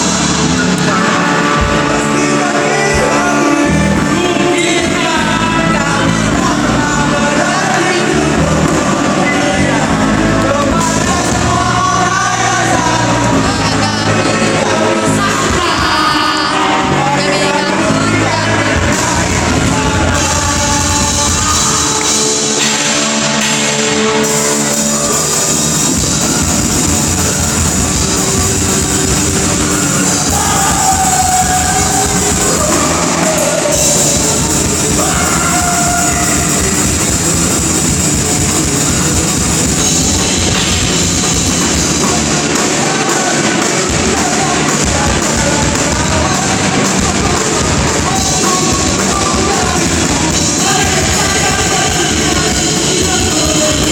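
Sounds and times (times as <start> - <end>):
live rock band playing: 0.0 - 53.9
person singing: 0.0 - 53.9
pounding drum kit: 0.0 - 53.9.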